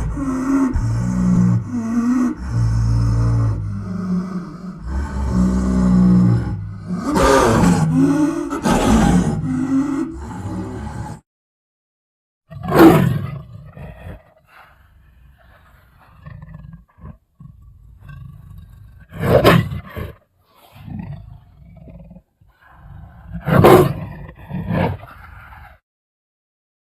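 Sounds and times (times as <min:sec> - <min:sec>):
leopard roaring: 0:00.0 - 0:11.2, 0:12.5 - 0:25.8.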